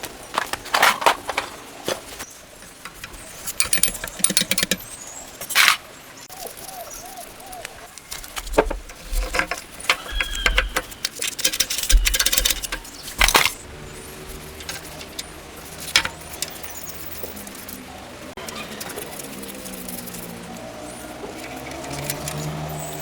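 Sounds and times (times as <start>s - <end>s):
metal tools clinking: 2.6s - 23.0s.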